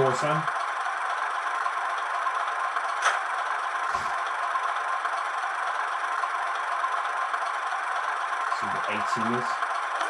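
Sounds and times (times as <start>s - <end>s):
small speaker engine hum: 0.0s - 10.0s.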